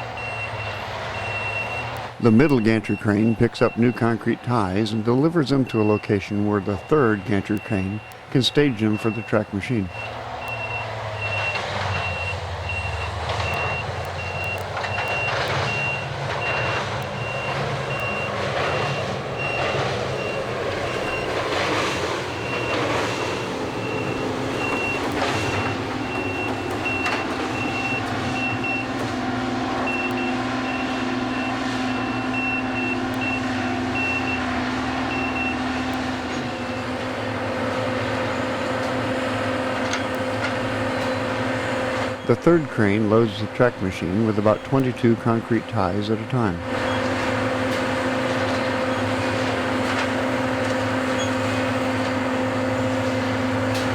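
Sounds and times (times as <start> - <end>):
diesel machinery running: 0.0 - 53.9
rapid alarm beeping: 0.0 - 53.9.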